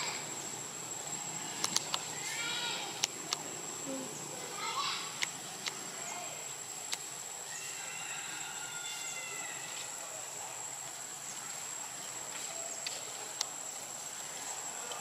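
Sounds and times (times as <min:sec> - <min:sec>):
even hiss: 0:00.0 - 0:15.0
faint distant voices: 0:00.0 - 0:15.0
high-pitched insect drone: 0:00.0 - 0:15.0.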